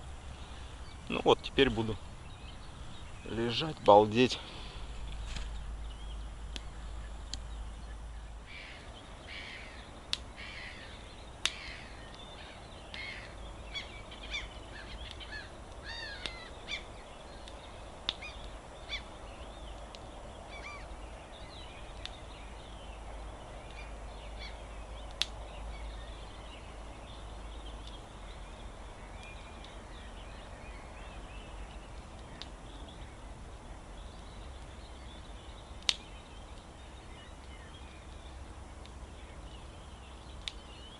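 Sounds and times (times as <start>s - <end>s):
birds chirping: 0.0s - 40.9s
campfire wood popping: 0.0s - 40.9s.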